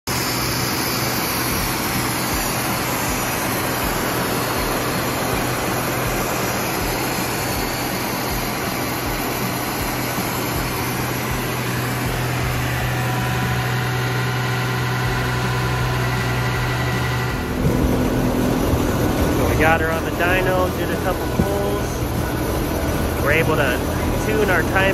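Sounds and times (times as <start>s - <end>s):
car engine running steadily: 0.1s - 24.9s.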